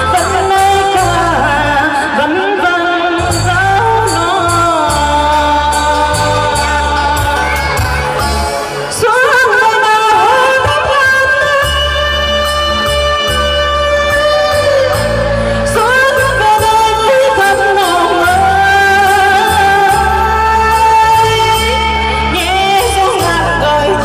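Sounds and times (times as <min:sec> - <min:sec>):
woman singing into microphone: 0:00.0 - 0:24.0
backing track with bass beat: 0:03.1 - 0:09.2, 0:10.5 - 0:24.0.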